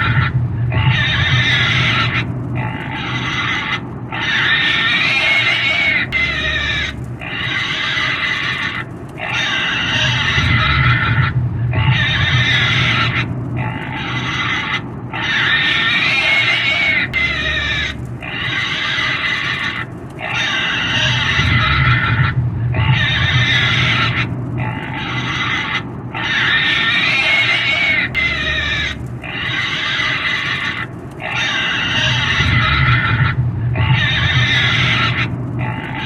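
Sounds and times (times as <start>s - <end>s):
pig squealing: 0.0s - 36.0s.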